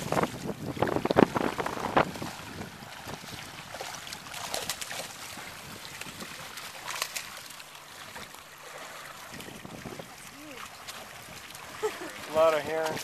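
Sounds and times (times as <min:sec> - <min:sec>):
fish splashing in water: 0:00.0 - 0:13.0.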